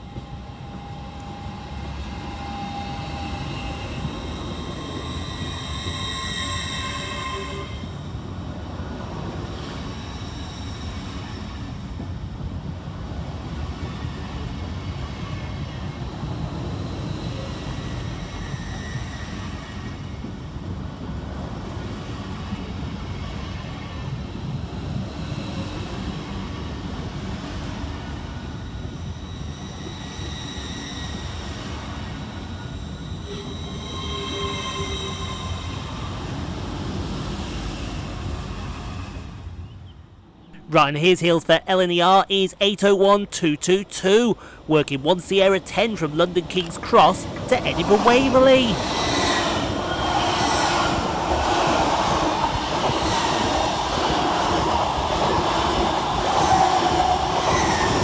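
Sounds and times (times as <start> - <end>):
train wheels rumbling on rails: 0.0 - 39.8, 46.0 - 58.0.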